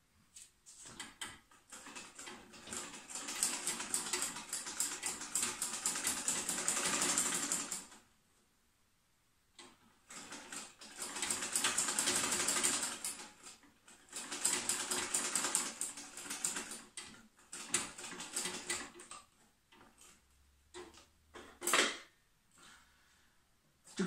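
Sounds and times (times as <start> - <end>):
sewing machine needle clatter: 0.9 - 7.9, 9.6 - 22.0.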